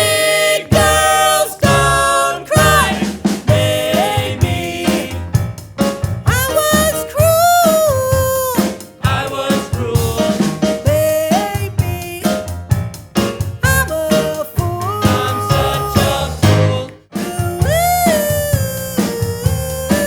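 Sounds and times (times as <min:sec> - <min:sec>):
voices singing in harmony: 0:00.0 - 0:05.4, 0:06.3 - 0:12.4, 0:13.8 - 0:20.0
drum kit: 0:00.0 - 0:20.0.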